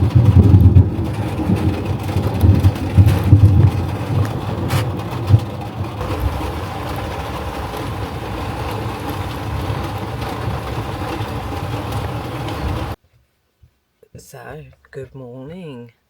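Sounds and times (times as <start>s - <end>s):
sharp thunder cracks: 0.0s - 13.0s
thunder rumbling: 0.0s - 13.0s.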